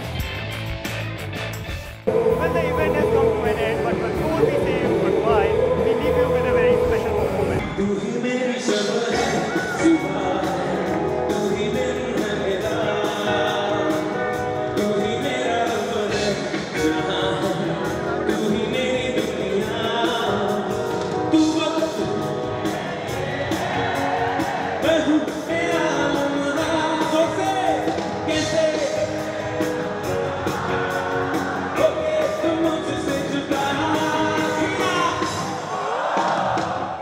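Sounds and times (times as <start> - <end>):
drums keeping a steady beat: 0.0 - 8.0, 8.6 - 37.0
keyboard: 0.0 - 37.0
man singing: 2.1 - 22.5, 24.8 - 30.9, 31.7 - 35.6.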